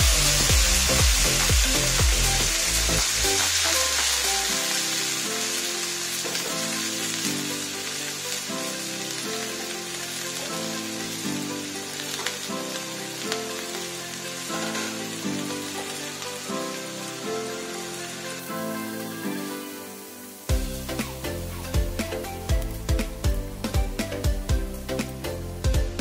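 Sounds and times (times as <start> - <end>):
beans sizzling in hot oil: 0.0 - 25.3
background music: 0.0 - 26.0.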